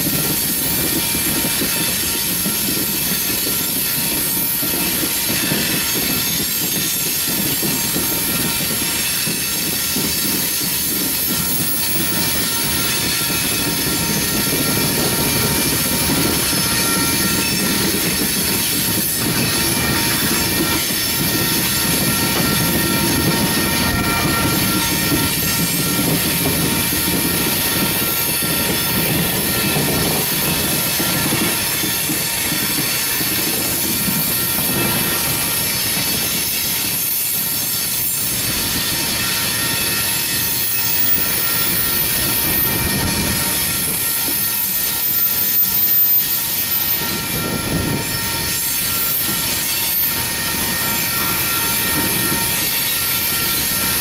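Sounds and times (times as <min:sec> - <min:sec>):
train wheels rolling on rail: 0:00.0 - 0:54.0.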